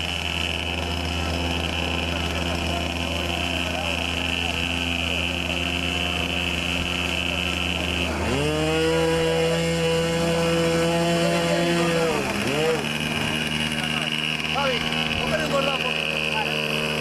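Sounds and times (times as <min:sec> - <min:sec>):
model aircraft engine revving: 0:00.0 - 0:17.0.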